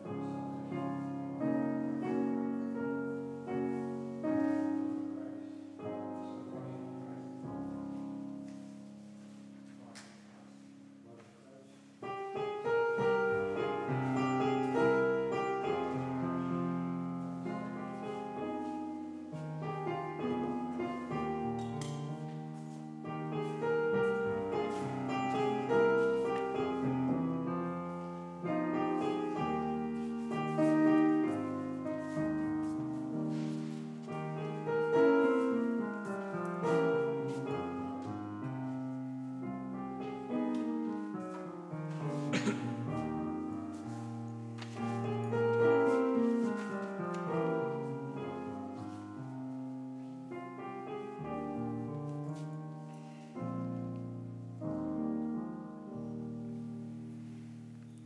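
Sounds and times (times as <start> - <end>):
slow flowing piano piece: 0.0 - 58.0.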